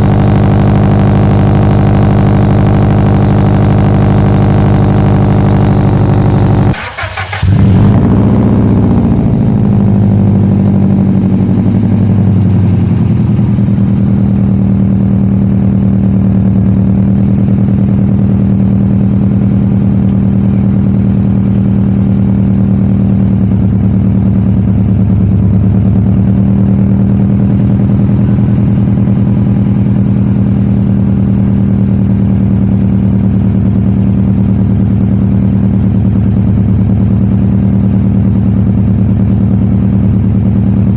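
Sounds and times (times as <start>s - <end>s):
car engine revving then idling: 0.0s - 40.9s.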